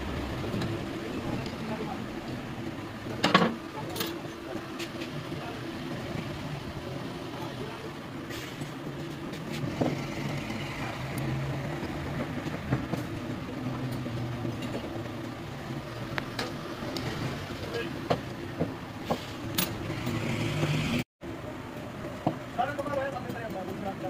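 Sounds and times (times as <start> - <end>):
low mechanical drone: 0.0 - 22.2.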